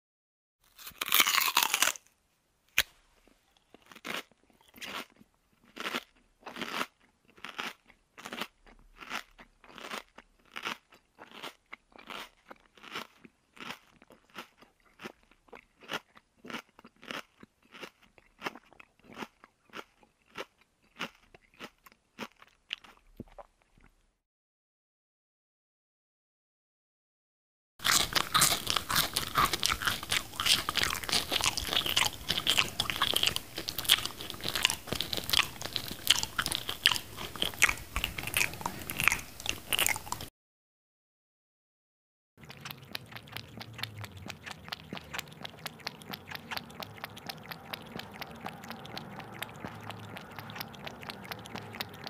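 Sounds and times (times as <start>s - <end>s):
person crunching crunchy food: 0.6s - 2.1s, 2.8s - 23.9s, 27.8s - 40.3s, 42.4s - 52.0s.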